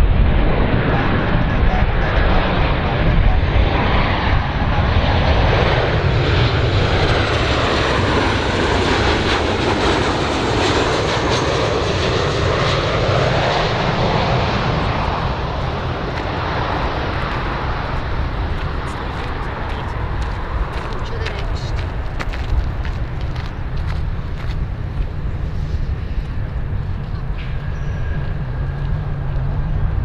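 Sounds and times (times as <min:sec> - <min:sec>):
jet airliner engines rushing: 0:00.0 - 0:30.0.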